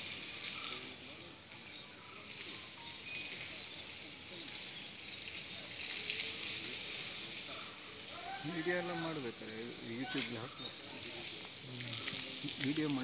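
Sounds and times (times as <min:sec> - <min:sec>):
hose water splashing: 0:00.0 - 0:13.0.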